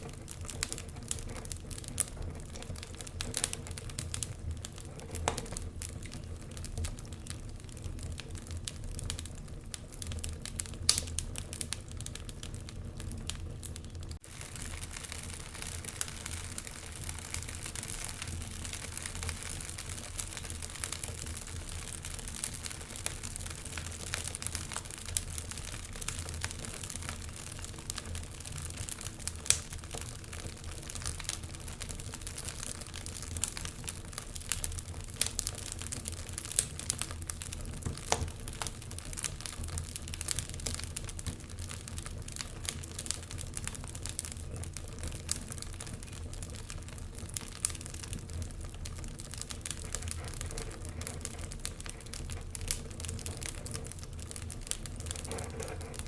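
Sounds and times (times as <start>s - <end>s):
fire popping and snapping: 0.0s - 56.0s
wood fire crackling: 0.0s - 56.0s.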